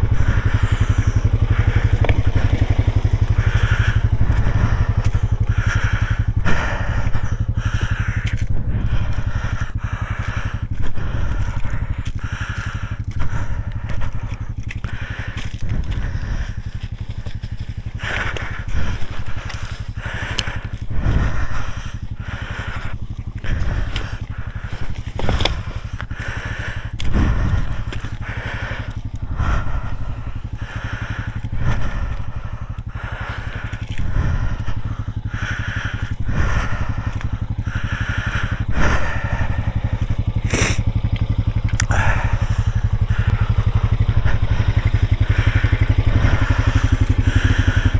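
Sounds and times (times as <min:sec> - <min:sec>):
off-road vehicle engine running: 0:00.0 - 0:47.9
wheels crunching over rough ground: 0:00.0 - 0:47.9.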